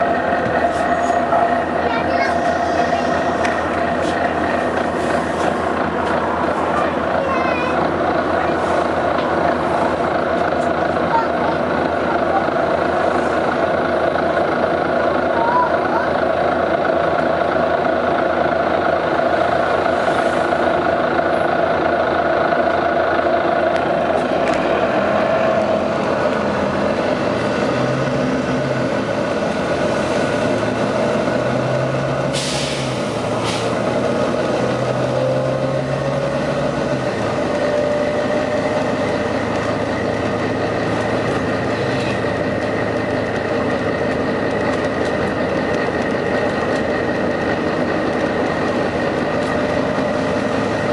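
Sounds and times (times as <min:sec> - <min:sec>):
bus diesel engine whine and hiss: 0:00.0 - 0:50.9.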